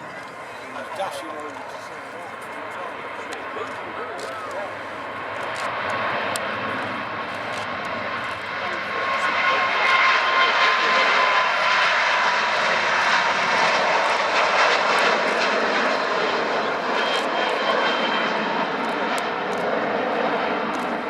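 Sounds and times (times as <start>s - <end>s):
airliner engines passing: 0.0s - 21.0s.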